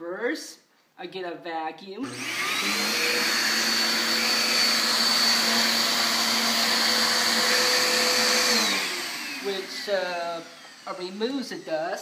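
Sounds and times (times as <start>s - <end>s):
vacuum cleaner running: 2.0s - 12.0s.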